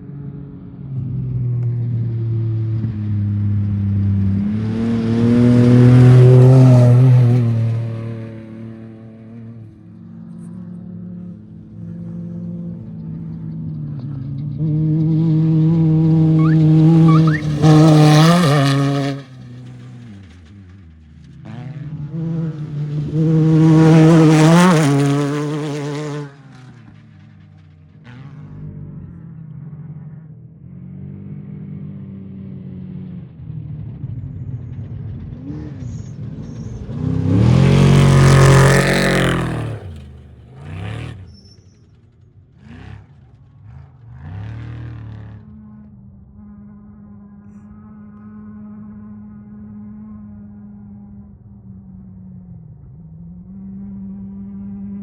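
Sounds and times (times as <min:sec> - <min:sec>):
engine drone: 0:00.0 - 0:55.0
off-road vehicles passing at speed: 0:00.0 - 0:55.0.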